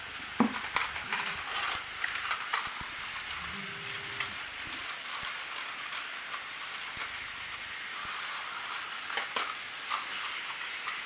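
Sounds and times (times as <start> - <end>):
toy trains rattling hiss: 0.0 - 11.0.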